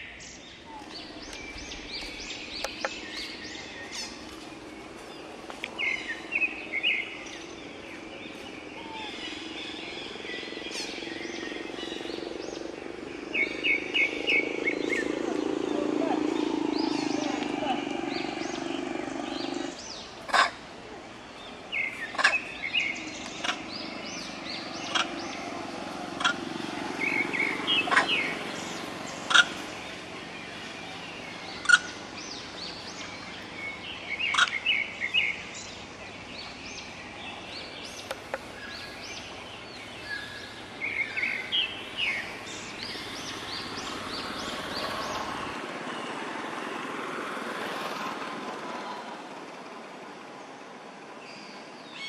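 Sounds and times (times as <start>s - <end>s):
wild birds calling: 0.0s - 52.0s.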